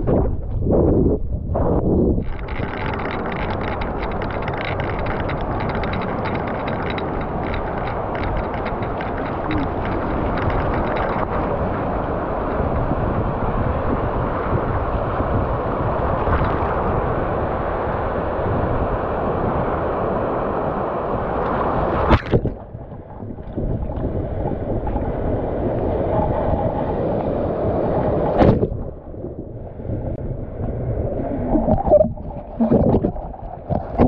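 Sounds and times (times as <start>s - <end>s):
wind noise on microphone: 0.0s - 34.0s.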